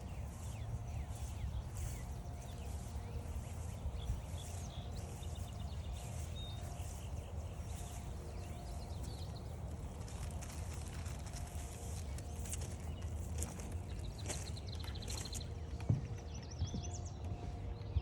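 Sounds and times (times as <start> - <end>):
bird song repeating: 0.0 - 18.0
steady low rumble: 0.0 - 18.0.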